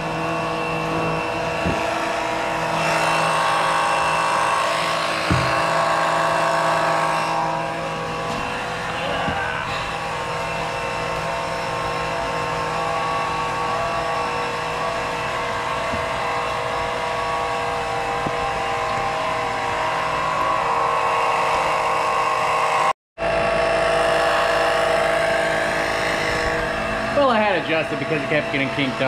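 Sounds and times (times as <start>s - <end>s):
electric pump motor whine: 0.0s - 29.0s.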